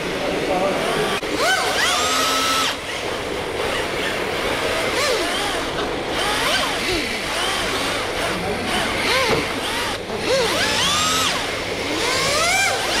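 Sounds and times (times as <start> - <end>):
rc car electric motors whining: 0.5 - 13.0.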